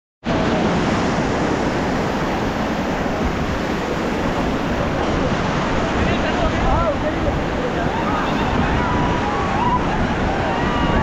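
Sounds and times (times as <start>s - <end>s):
rushing river water: 0.3s - 11.0s.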